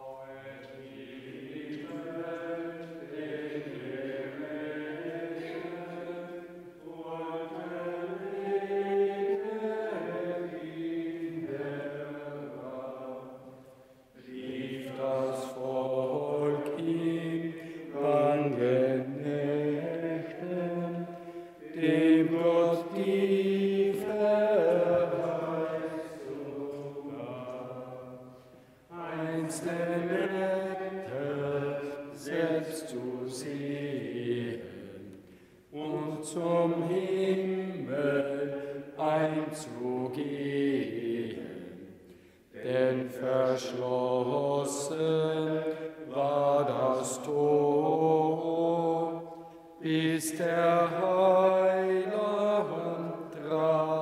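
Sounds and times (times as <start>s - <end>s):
voices singing a hymn: 0.0s - 54.0s.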